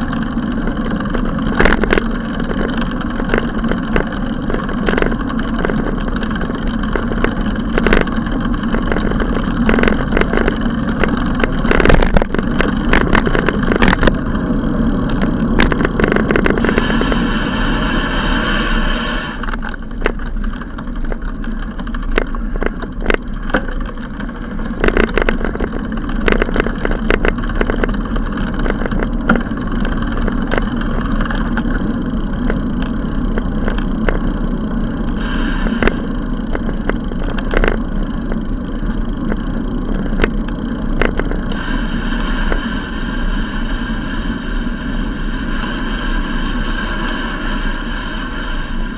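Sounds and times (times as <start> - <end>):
sharp clicks and rattles: 0.0 - 17.6, 18.5 - 48.9
bicycle rolling rumble: 0.0 - 48.9
steady pitched tone: 0.0 - 48.9.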